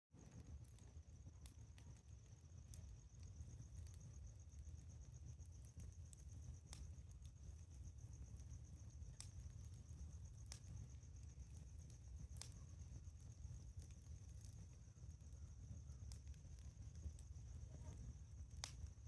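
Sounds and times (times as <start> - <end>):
campfire crackling: 0.2 - 19.0
insects chirping in a trill: 0.2 - 19.0.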